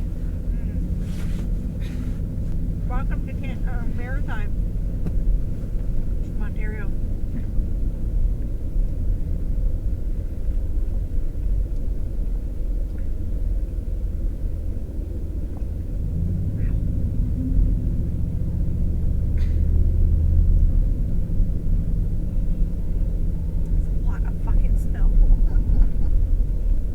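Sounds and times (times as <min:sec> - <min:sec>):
car engine: 0:00.0 - 0:26.9.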